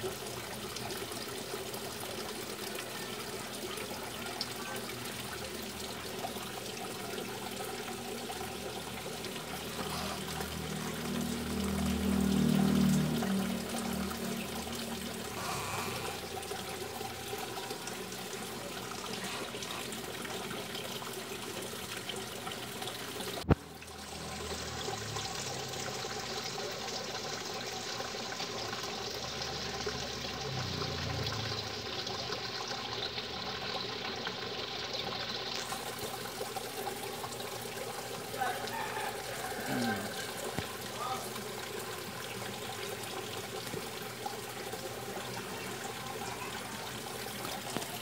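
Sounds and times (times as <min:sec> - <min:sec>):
water trickling and splashing: 0:00.0 - 0:48.0.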